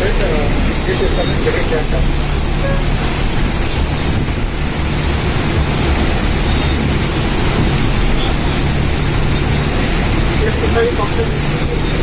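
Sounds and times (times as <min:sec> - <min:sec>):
heavy rain pouring on water: 0:00.0 - 0:12.0.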